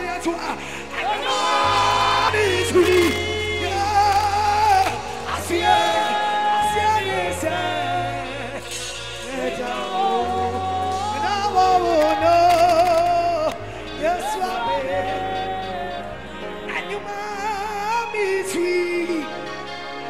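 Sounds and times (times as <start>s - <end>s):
live band with keyboards and bass: 0.0s - 20.0s.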